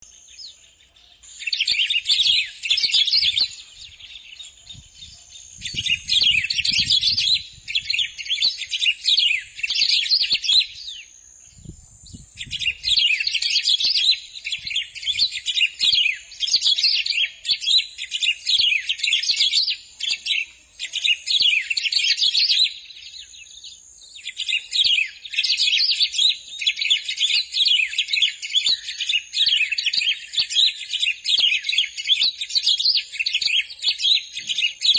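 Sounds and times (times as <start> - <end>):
bird singing high phrases: 0.0 - 34.9.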